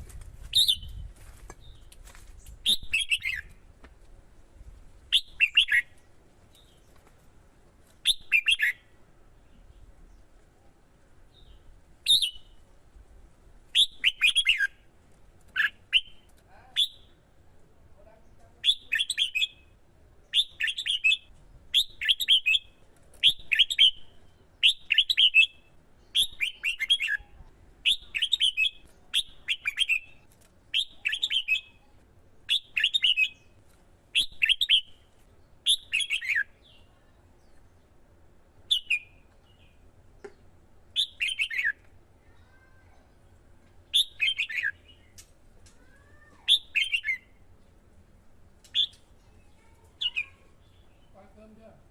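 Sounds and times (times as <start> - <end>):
bird singing warbled phrases: 0.5 - 1.9, 2.6 - 3.5, 5.1 - 7.0, 8.0 - 10.4, 11.3 - 12.7, 13.7 - 14.9, 15.5 - 17.3, 18.0 - 47.8, 48.5 - 51.9.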